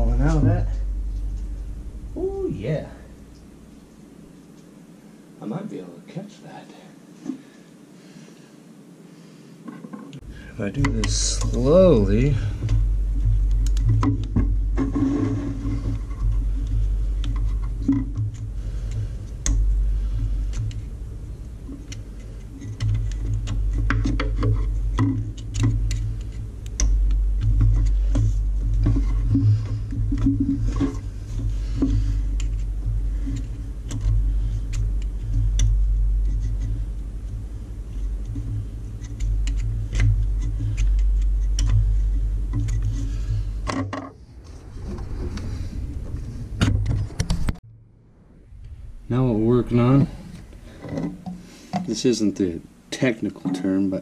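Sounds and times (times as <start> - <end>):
steady low rumble: 0.0 - 5.4, 10.2 - 52.9.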